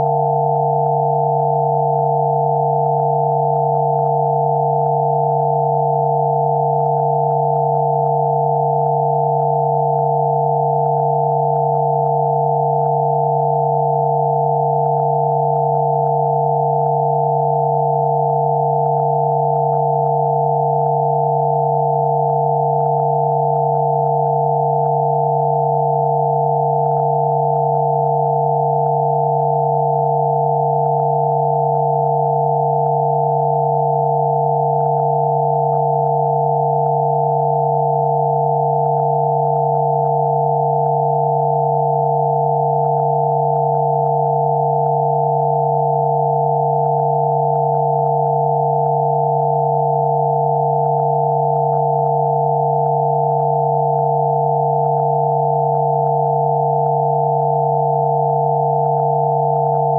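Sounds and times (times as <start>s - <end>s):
low electronic hum: 0.0s - 59.9s.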